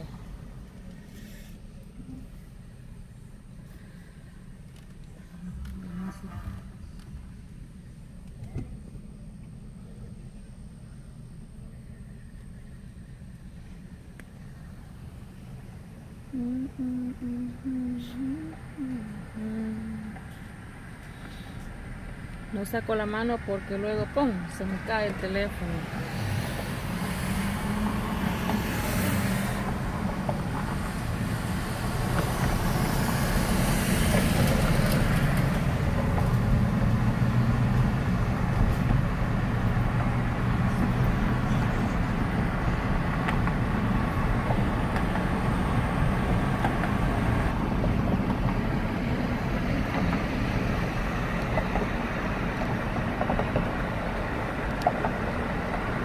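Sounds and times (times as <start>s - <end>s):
passing traffic hiss: 0.0s - 56.0s
tyres and engine rumbling: 0.0s - 56.0s.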